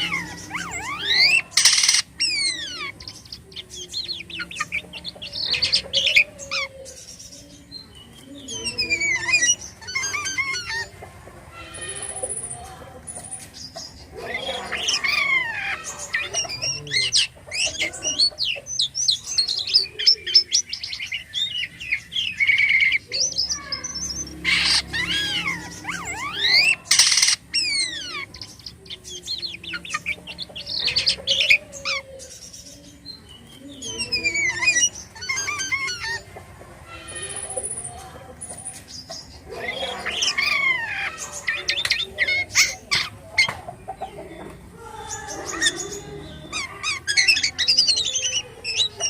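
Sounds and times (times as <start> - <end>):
starling singing: 0.0 - 49.0.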